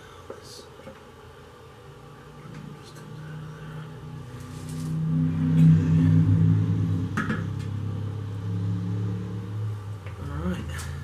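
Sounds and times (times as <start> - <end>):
motor humming: 1.1 - 11.0.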